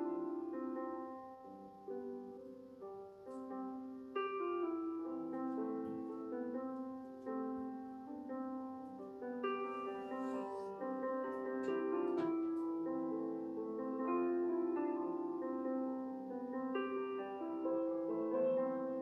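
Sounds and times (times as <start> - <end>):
slow instrumental music: 0.0 - 19.0.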